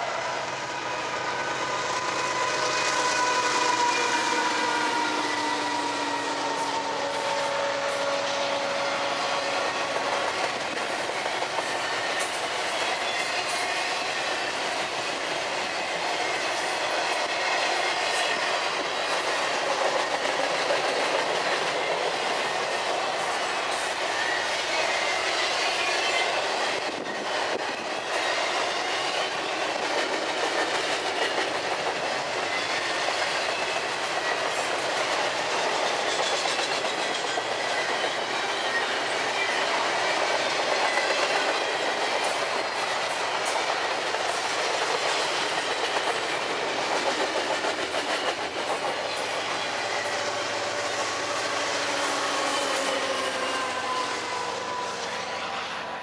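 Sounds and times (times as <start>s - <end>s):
train wheels clattering on rails: 0.0s - 55.4s.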